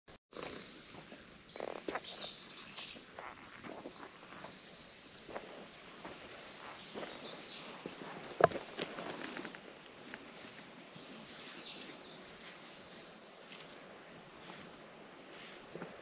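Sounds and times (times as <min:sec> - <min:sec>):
faint outdoor noise: 0:00.3 - 0:16.0.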